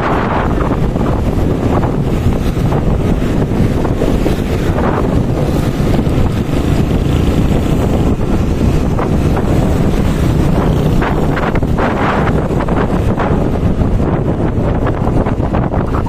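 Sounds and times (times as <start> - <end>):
motorbike engine: 0.0 - 16.0
road noise: 0.0 - 16.0
wind buffeting microphone: 0.0 - 16.0.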